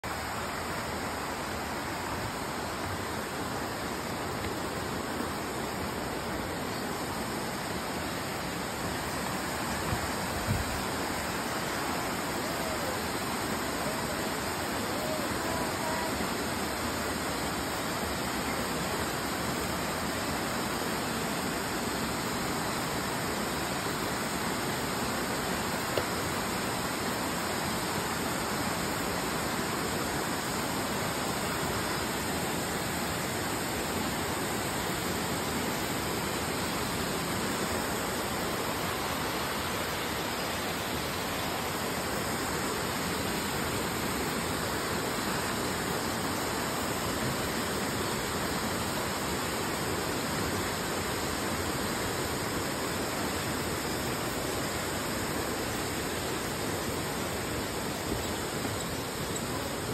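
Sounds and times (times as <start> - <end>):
waterfall and river rushing: 0.0 - 59.9.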